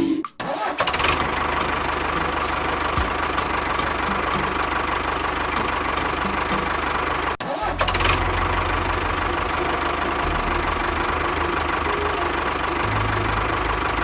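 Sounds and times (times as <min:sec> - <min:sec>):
small engine idling: 0:00.8 - 0:14.0.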